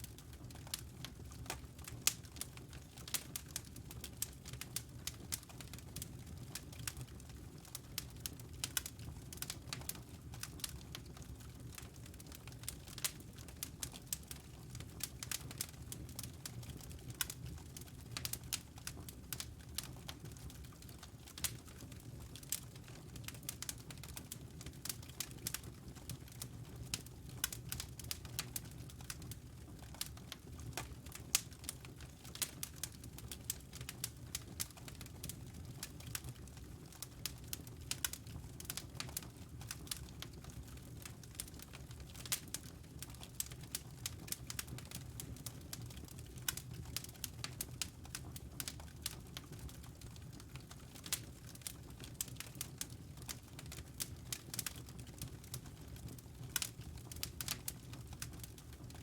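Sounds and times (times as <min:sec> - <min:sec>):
fire crackling in a fireplace: 0:00.0 - 0:59.0.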